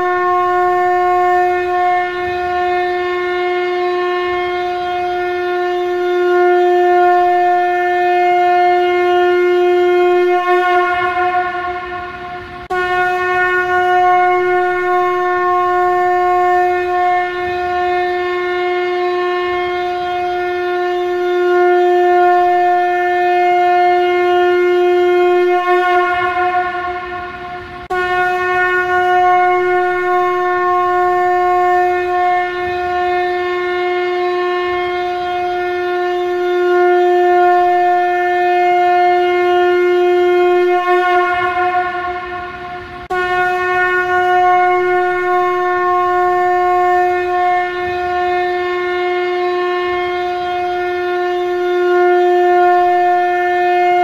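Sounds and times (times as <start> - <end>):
conch shell blasts: 0.0 - 54.0.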